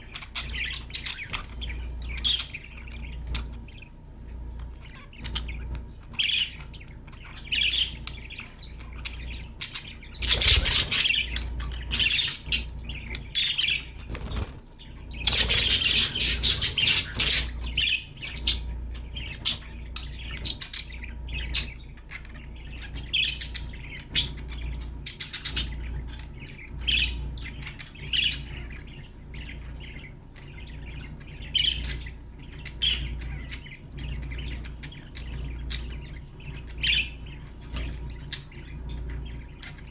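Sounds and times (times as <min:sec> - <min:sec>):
budgerigars chirping and warbling: 0:00.0 - 0:39.9
low steady hum: 0:00.0 - 0:39.9.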